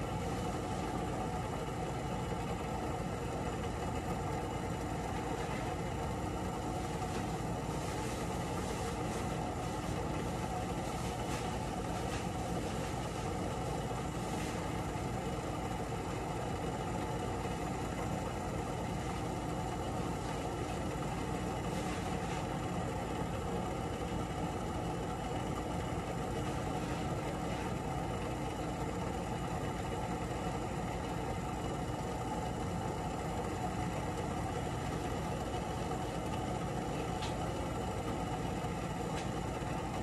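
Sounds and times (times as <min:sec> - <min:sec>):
household appliance humming: 0:00.0 - 0:40.0.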